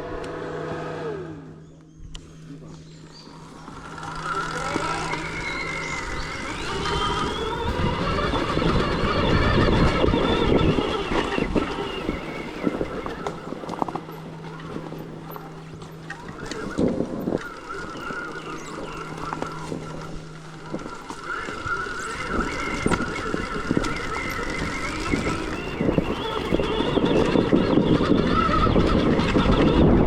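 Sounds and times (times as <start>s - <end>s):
electric motor whine: 0.0s - 30.0s
tyres and suspension on rough ground: 0.0s - 30.0s.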